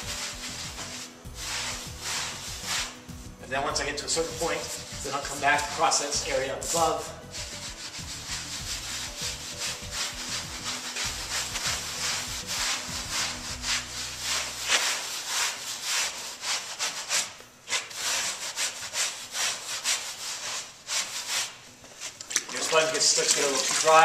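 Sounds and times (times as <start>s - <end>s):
sponge scrubbing plaster wall: 0.0s - 24.0s.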